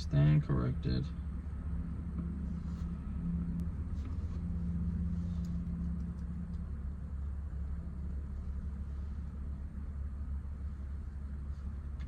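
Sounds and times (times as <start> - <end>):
droning hum: 0.0 - 12.0
low rumble: 0.0 - 12.0.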